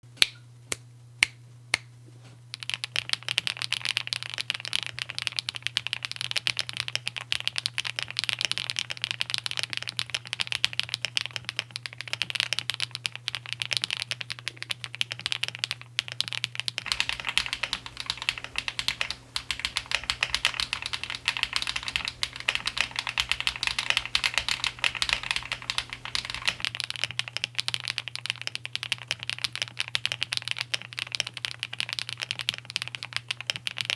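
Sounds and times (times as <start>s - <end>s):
mechanical keyboard typing: 2.6s - 33.9s.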